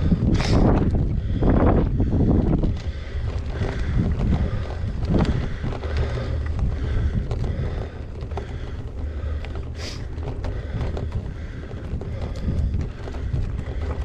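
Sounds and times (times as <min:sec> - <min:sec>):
bike rattles and knocks: 0:00.0 - 0:14.0
wind buffeting microphone: 0:00.0 - 0:14.0.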